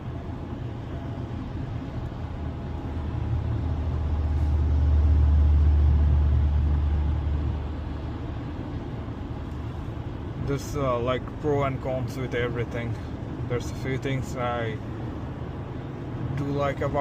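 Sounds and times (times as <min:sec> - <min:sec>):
deep vehicle rumble: 0:00.0 - 0:17.0
low road noise: 0:00.0 - 0:17.0.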